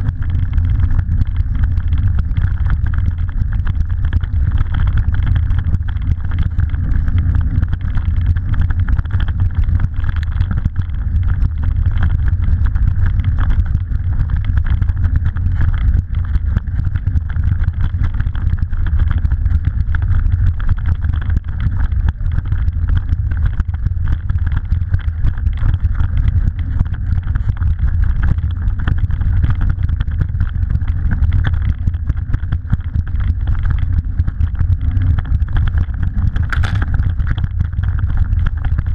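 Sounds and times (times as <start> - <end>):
bike rattling and clicking: 0.0 - 38.9
bike rolling low rumble: 0.0 - 38.9.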